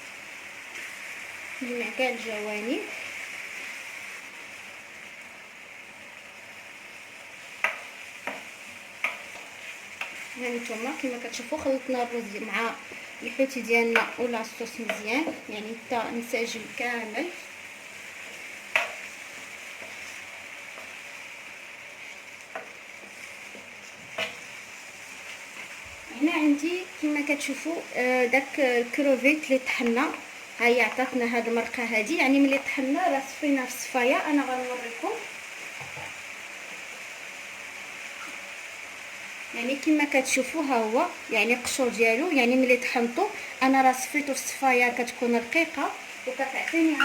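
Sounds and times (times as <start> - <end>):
rice sizzling in a pan: 0.0 - 47.0.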